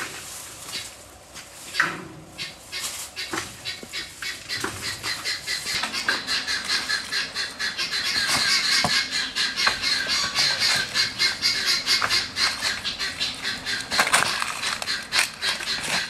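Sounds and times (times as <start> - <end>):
birds chirping: 1.7 - 16.0.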